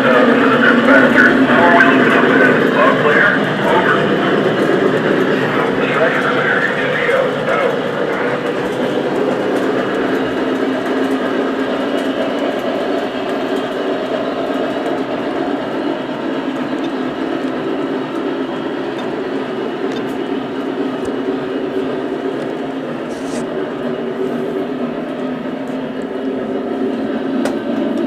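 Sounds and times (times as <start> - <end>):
locomotive sound effects: 0.0 - 27.1
model train running on track: 0.0 - 28.0.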